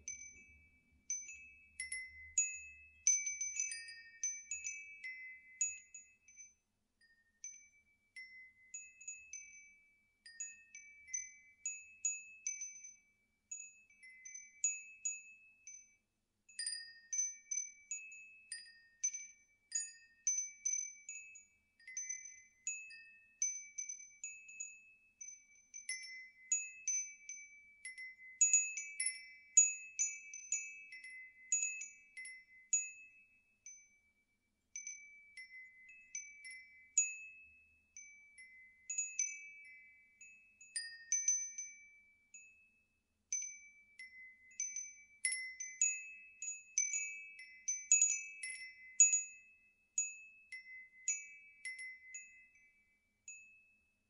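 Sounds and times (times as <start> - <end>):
wind chimes tinkling: 0.0 - 54.0.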